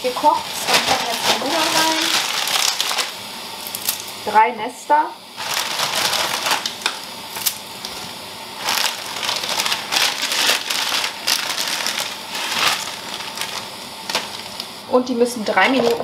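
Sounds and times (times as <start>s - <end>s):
plastic bag crinkling: 0.0s - 4.2s, 5.4s - 14.8s.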